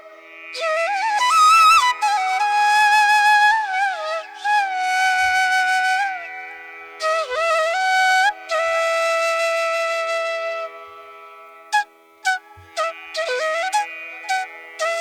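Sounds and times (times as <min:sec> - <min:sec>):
flute music: 0:00.6 - 0:06.3, 0:07.0 - 0:11.1, 0:11.7 - 0:15.0.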